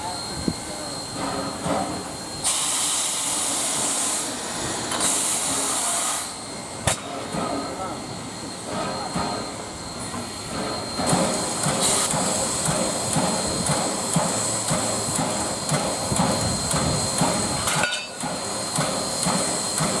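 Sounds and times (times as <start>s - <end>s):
steam locomotive hissing: 0.0s - 20.0s.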